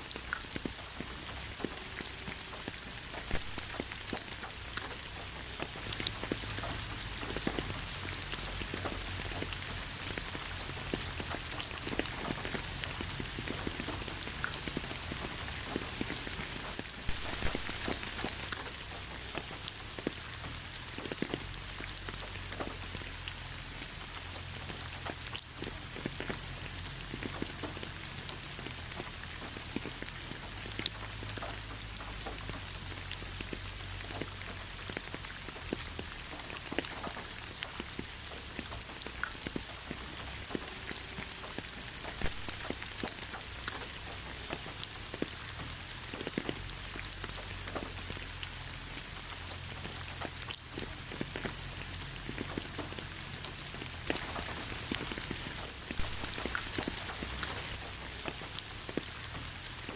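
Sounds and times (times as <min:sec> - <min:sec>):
raindrops pattering on surfaces: 0:00.0 - 0:59.9
steady rainfall hiss: 0:00.0 - 0:59.9.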